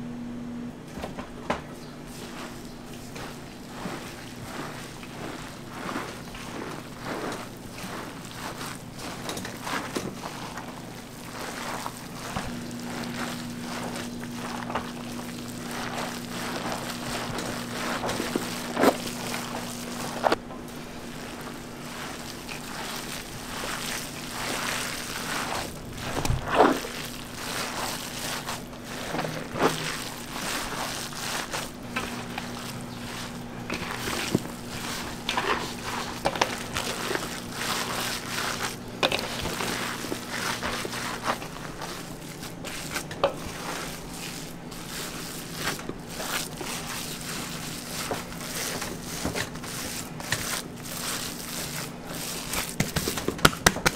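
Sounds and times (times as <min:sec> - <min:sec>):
steady low hum: 0:00.0 - 0:53.9
meat being kneaded squishing: 0:01.7 - 0:53.9.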